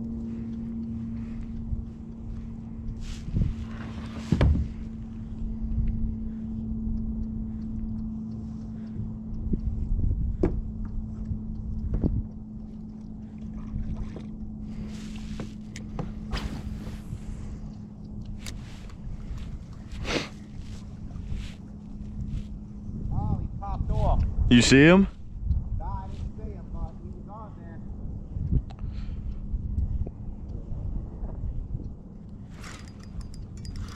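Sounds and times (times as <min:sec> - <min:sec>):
low wind rumble: 0:00.0 - 0:33.9
steady low hum: 0:00.0 - 0:33.9.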